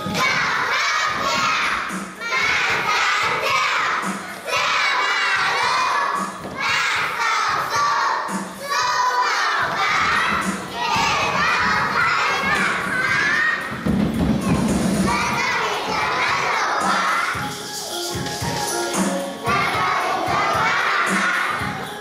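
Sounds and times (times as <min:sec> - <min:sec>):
children chanting in unison: 0:00.0 - 0:13.8, 0:14.5 - 0:17.6, 0:19.4 - 0:22.0.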